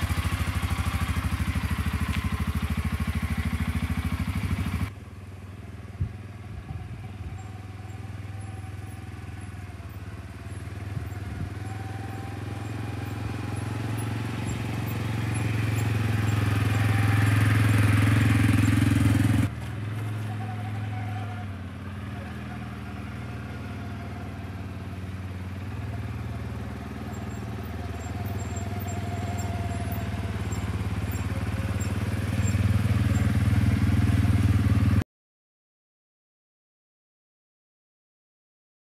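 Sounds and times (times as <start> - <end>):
quad engine driving by: 0.0 - 35.0.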